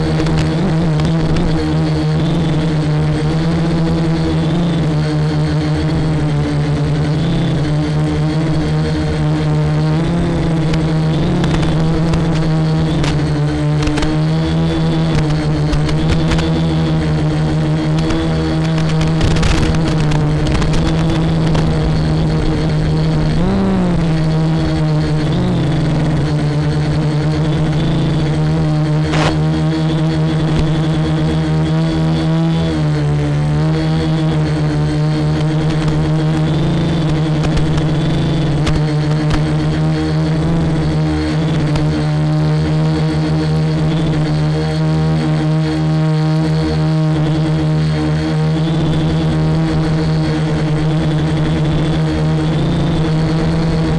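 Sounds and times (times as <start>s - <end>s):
quadcopter propellers whining: 0.0s - 53.9s.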